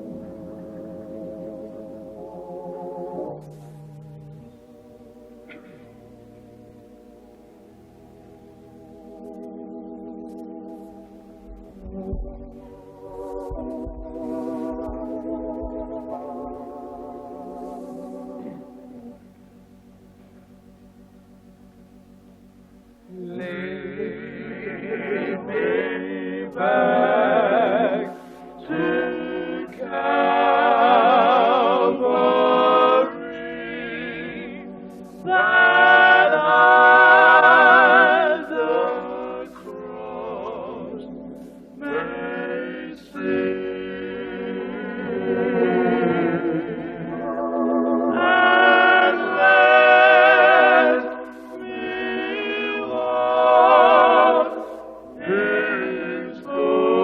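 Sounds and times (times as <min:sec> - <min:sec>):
choir singing a cappella: 0:00.0 - 0:57.0.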